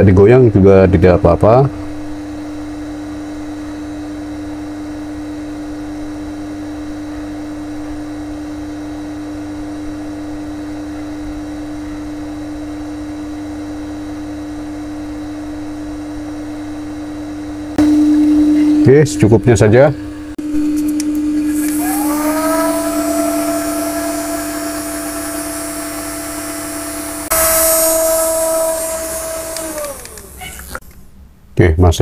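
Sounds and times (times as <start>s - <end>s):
hot air blower hum: 0.0s - 31.0s.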